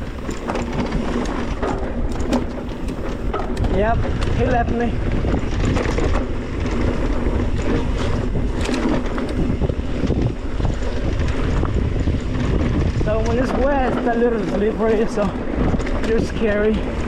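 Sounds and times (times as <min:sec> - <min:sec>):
bike rattles and knocks: 0:00.0 - 0:17.0
bike tyres rumbling on dirt: 0:00.0 - 0:17.0
wind on microphone: 0:00.0 - 0:17.0.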